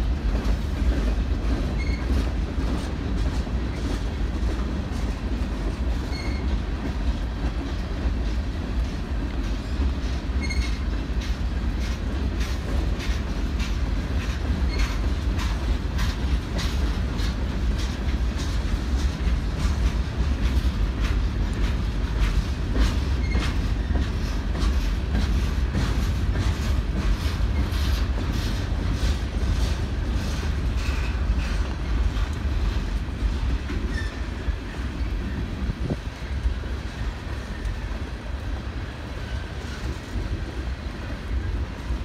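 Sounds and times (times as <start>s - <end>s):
freight train rumbling: 0.0s - 42.0s
wheels clacking over rail joints: 0.0s - 42.0s.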